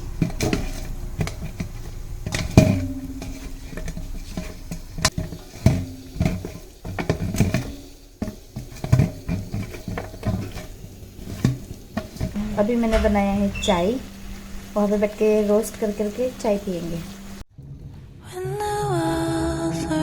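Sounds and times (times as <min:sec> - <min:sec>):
hands mixing food in a dish: 0:00.0 - 0:17.4.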